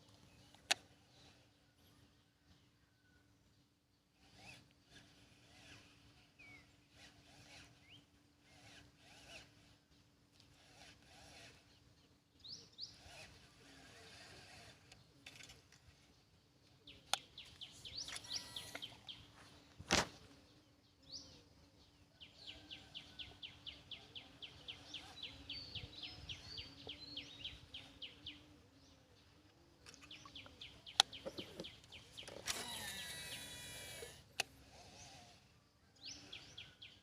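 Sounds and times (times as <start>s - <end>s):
wild birds singing and calling: 0.0s - 37.0s.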